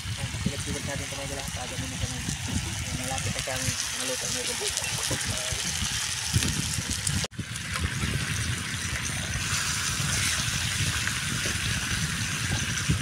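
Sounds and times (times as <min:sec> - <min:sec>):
meat sizzling on grill pan: 0:00.5 - 0:13.0.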